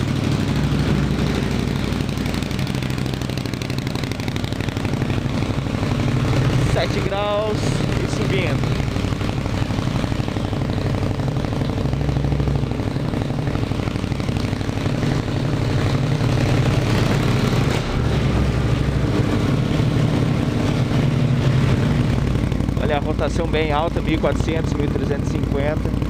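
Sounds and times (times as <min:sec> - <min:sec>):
motorcycle engine idling fast: 0:00.0 - 0:26.0.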